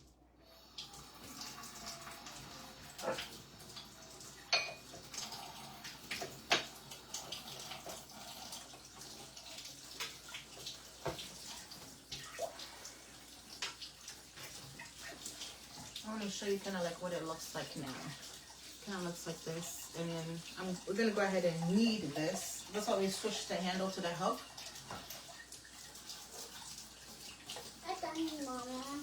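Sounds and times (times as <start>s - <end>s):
tap water running and splashing: 0.0s - 29.0s.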